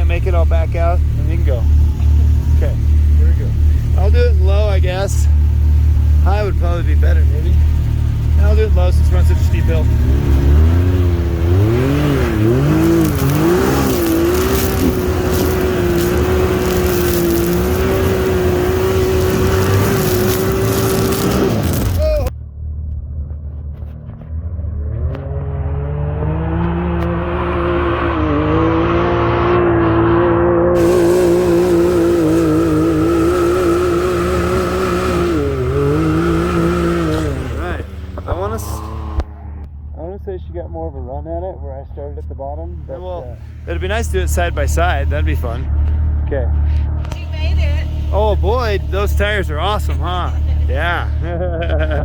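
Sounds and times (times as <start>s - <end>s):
utility vehicle engine revving: 0.0s - 41.2s, 42.7s - 52.0s.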